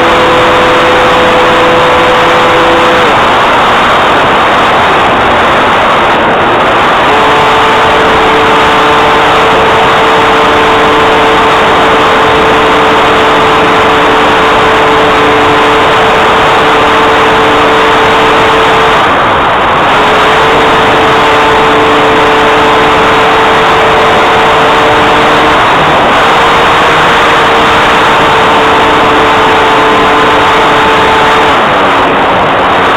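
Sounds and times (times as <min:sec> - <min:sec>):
light aircraft cabin drone: 0:00.0 - 0:32.9
steady hums: 0:00.0 - 0:32.9.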